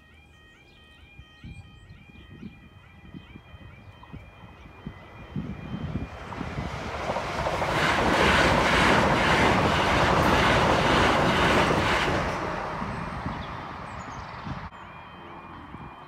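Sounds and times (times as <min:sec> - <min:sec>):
passenger train passing: 0:02.7 - 0:16.0.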